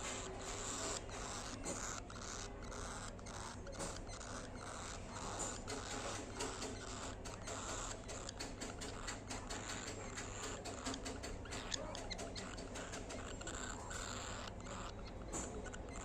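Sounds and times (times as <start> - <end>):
bird beak clicks: 0.0 - 16.0.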